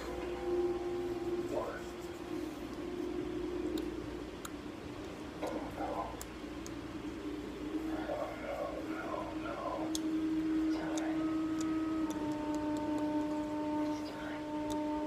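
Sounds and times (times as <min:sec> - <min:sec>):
steady tonal hum: 0:00.0 - 0:15.0.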